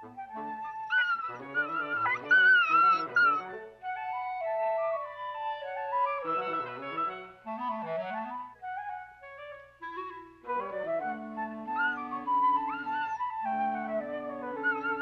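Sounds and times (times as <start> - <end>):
woodwinds playing a melody: 0.0 - 15.0.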